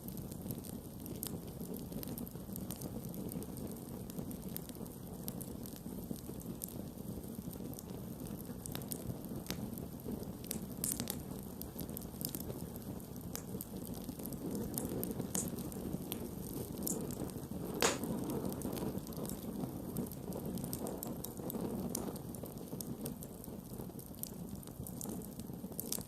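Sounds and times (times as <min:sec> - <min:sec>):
burning wood crackling and popping: 0:00.0 - 0:26.0
campfire flames rushing: 0:00.0 - 0:26.0.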